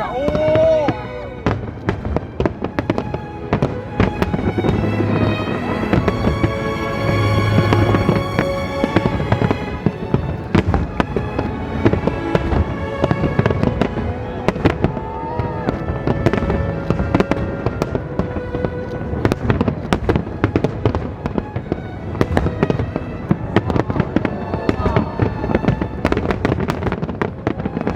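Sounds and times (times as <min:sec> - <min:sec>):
classical violin music: 0:00.0 - 0:27.9
fireworks bangs and crackles: 0:00.1 - 0:27.9.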